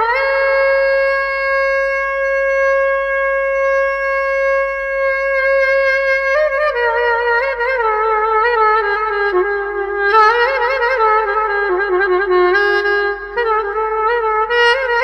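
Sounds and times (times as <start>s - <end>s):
solo wind instrument melody: 0.0s - 15.0s.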